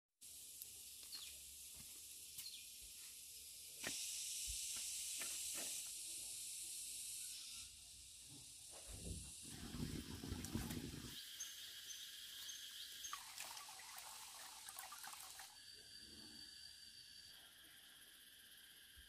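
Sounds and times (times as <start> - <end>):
high-pitched hiss: 0.2 - 13.2, 15.3 - 19.0.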